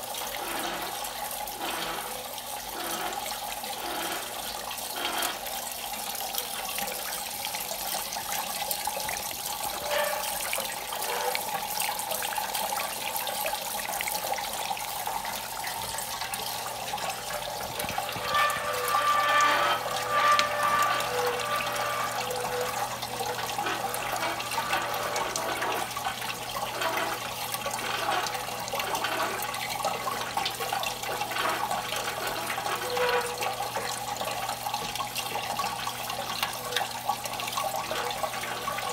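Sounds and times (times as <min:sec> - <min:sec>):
water splashing into metal basins: 0:00.0 - 0:38.9.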